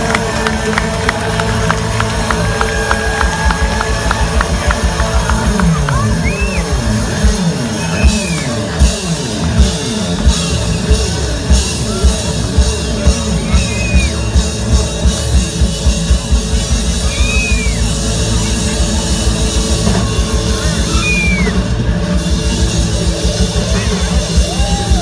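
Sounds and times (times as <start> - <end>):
drum kit beat: 0.0 - 25.0
live rock band playing: 0.0 - 25.0.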